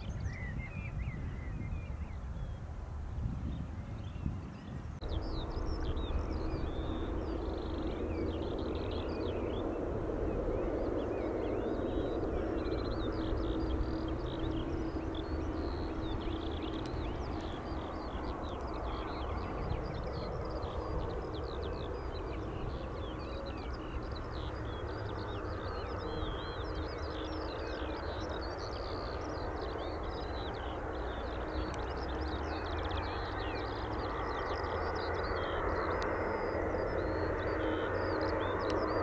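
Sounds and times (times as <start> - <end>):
small birds chirping: 3.4 - 39.0
jet engines rumbling: 4.7 - 39.0.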